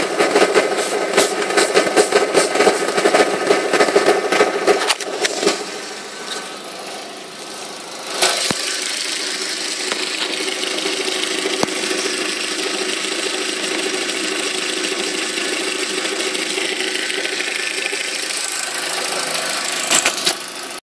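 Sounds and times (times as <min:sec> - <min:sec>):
car engine running with whine: 0:00.0 - 0:20.8.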